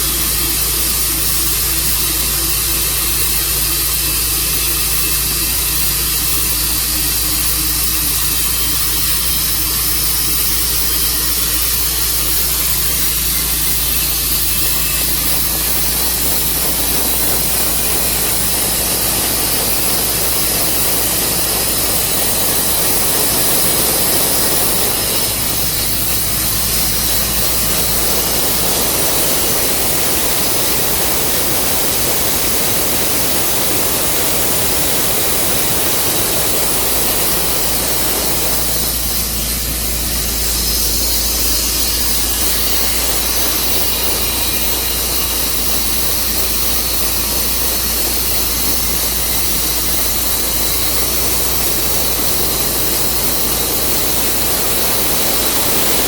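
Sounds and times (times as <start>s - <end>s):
hissing saw noise: 0.0s - 56.0s
sawmill engine hum: 0.0s - 56.0s.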